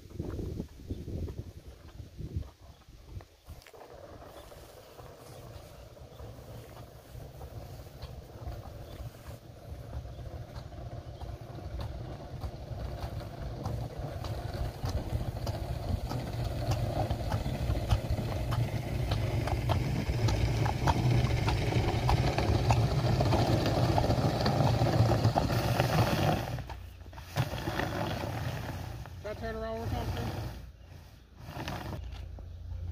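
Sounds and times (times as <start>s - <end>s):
horse hooves clopping on pavement: 0.0s - 30.2s
barrel dragged over asphalt: 3.2s - 32.9s.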